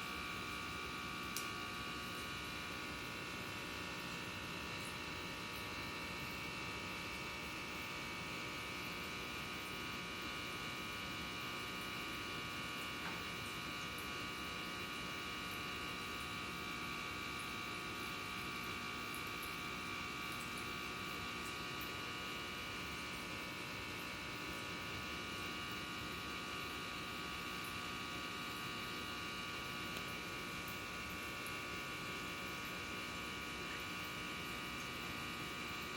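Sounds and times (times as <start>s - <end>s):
electrical hum: 0.0s - 35.9s.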